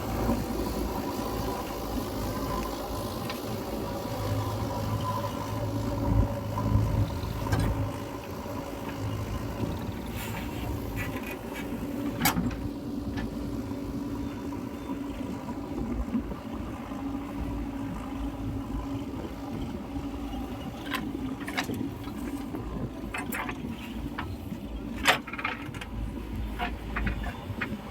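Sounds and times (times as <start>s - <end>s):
heavy diesel engine running: 0.0s - 27.9s.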